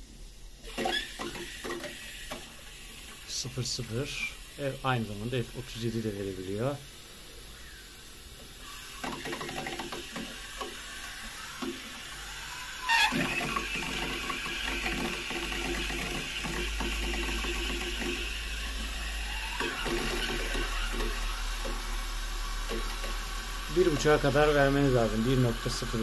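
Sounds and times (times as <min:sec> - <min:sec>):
water flowing into boiler: 0:00.0 - 0:26.0.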